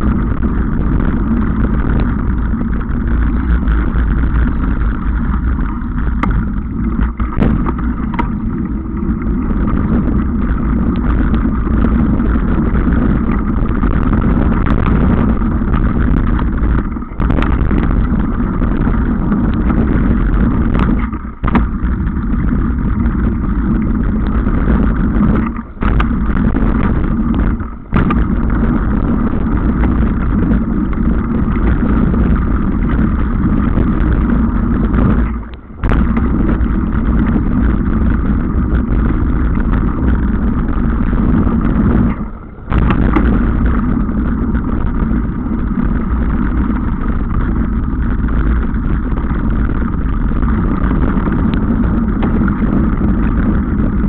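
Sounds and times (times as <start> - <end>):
mountain bike rumble and rattle: 0.0 - 54.0
wind rushing over microphone: 0.0 - 54.0.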